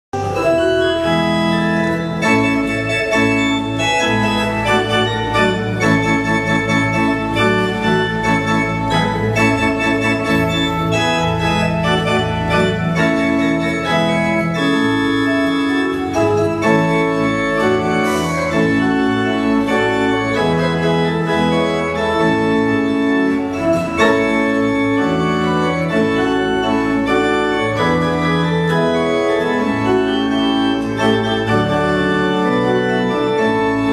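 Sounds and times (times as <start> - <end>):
pipe organ playing chords: 0.2 - 33.9.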